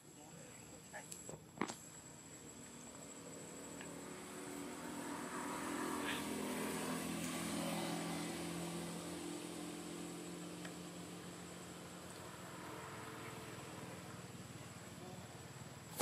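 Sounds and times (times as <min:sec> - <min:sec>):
vehicle engine passing by: 0:02.8 - 0:16.0.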